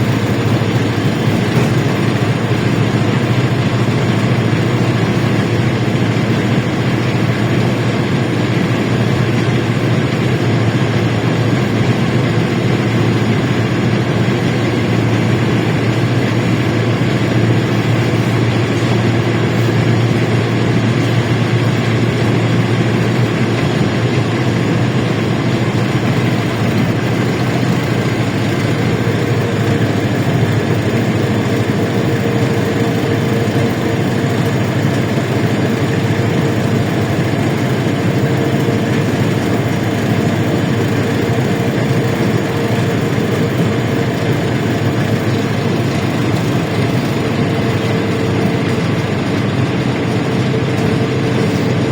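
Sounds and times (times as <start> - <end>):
bus engine low hum: 0.0 - 51.9.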